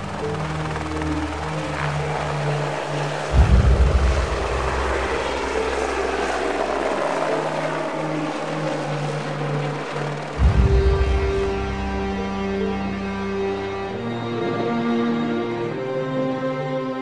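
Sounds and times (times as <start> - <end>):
helicopter rotor and turbine: 0.0 - 15.9.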